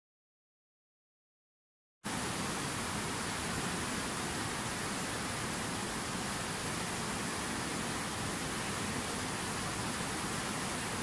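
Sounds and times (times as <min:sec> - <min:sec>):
river rushing over boulders: 0:02.1 - 0:11.0.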